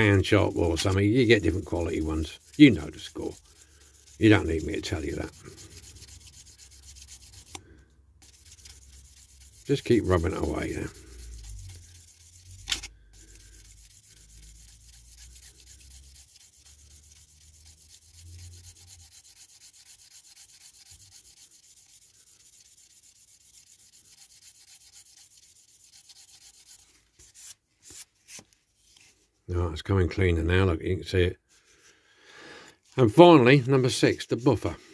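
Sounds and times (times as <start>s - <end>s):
sanding stick rubbing plastic: 0.0s - 28.0s, 32.8s - 34.8s.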